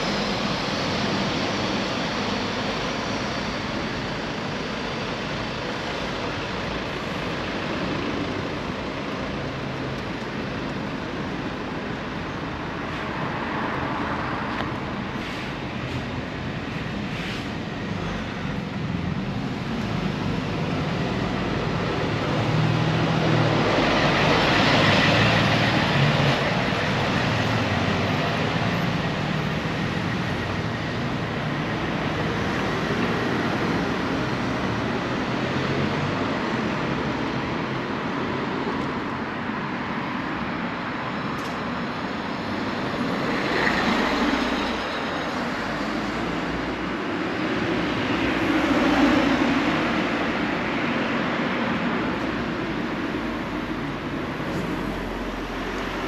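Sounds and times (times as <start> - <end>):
hum of traffic: 0.0 - 56.0.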